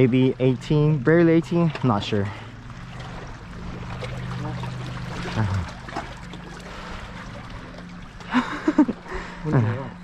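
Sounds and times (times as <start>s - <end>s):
water lapping against boulders: 0.0s - 9.1s
steady low hum: 0.0s - 10.0s.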